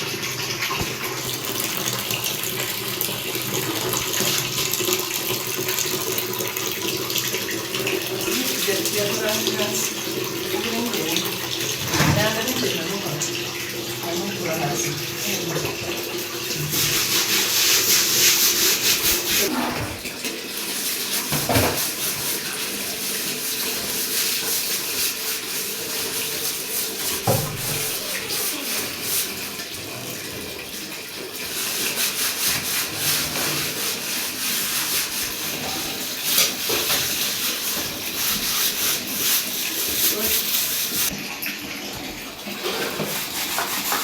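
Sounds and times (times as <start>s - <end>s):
water running and splashing: 0.0s - 44.0s.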